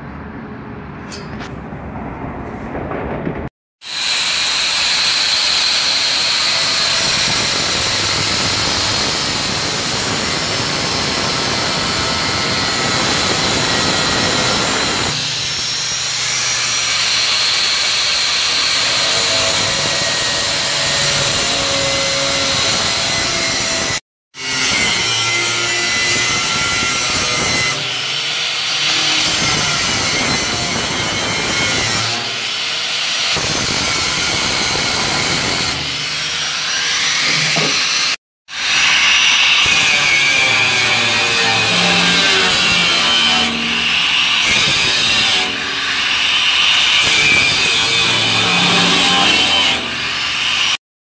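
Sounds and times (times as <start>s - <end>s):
angle grinder cutting steel: 3.8s - 50.8s.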